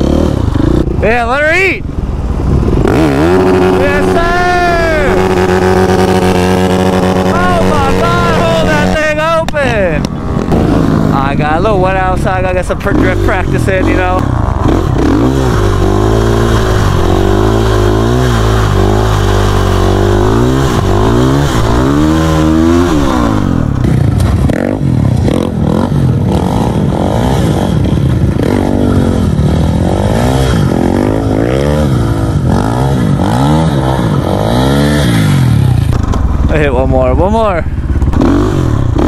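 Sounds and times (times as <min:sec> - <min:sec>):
vehicle engine revving: 0:00.0 - 0:39.0.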